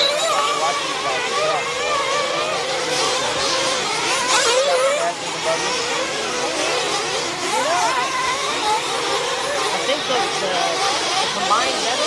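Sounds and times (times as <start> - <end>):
rc truck engines buzzing: 0.0 - 12.0.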